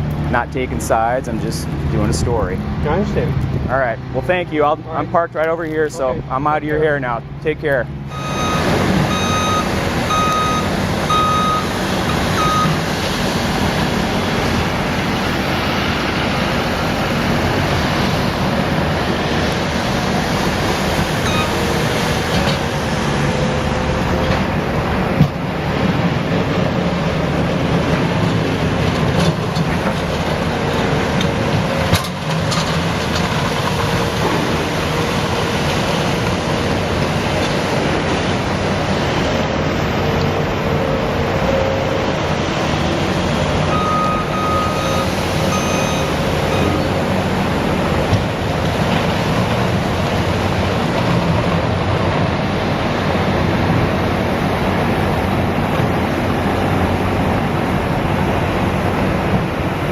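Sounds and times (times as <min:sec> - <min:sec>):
demolition machine engine running: 0:07.2 - 0:59.9.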